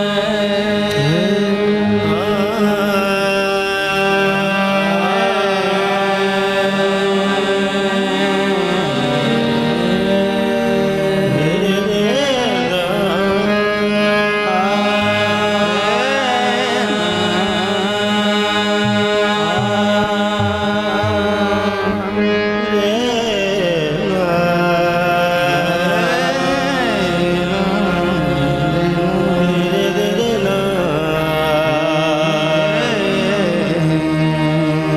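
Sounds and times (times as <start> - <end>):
man singing with wavering phrases: 0.0 - 34.9.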